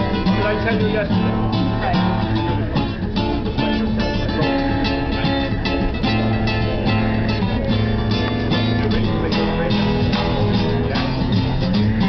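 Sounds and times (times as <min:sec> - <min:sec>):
acoustic guitar strumming: 0:00.0 - 0:12.0
sustained low notes: 0:00.0 - 0:12.0.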